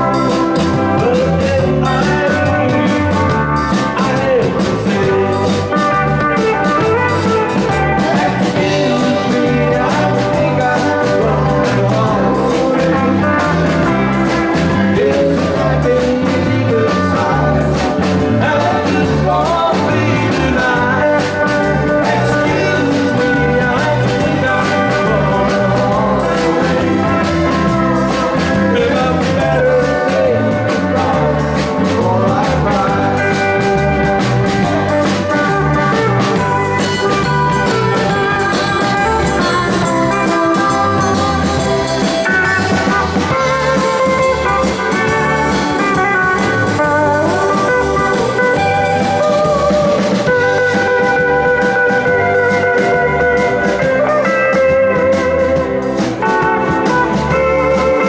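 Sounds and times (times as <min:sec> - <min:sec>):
man singing into microphone: 0:00.0 - 0:36.6, 0:42.2 - 0:55.6
live band playing: 0:00.0 - 0:58.0.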